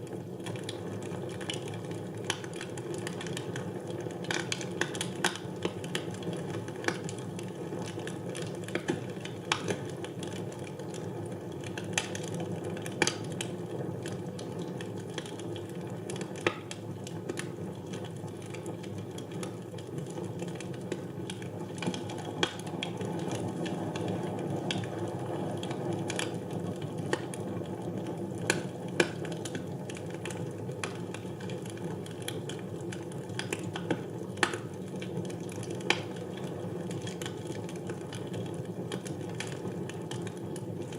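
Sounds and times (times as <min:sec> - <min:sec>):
wood fire burning in fireplace: 0:00.0 - 0:40.9.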